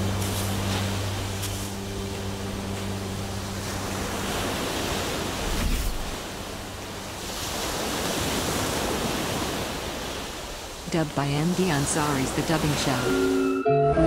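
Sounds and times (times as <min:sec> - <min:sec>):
ocean surf on beach: 0:00.0 - 0:13.4.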